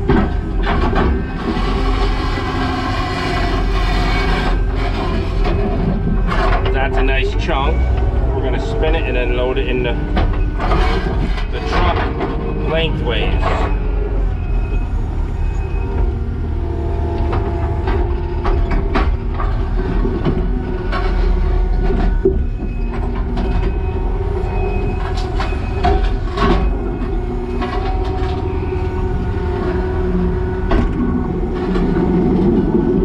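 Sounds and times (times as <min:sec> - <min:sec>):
diesel engine under load: 0:00.0 - 0:33.0
hydraulic whine: 0:00.0 - 0:33.0.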